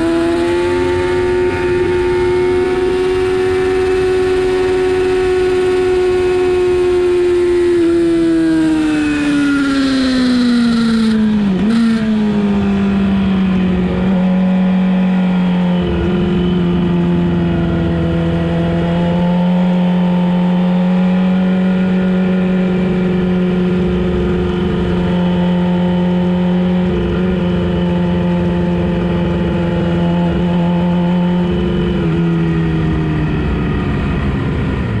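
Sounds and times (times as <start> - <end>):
motorcycle engine: 0.0 - 35.0.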